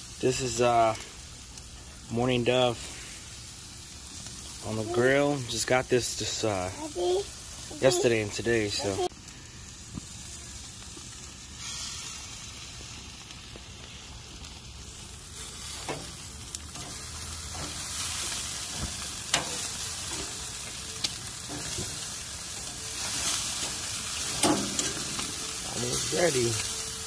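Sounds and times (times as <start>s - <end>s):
meat sizzling on a grill: 0.0s - 27.0s.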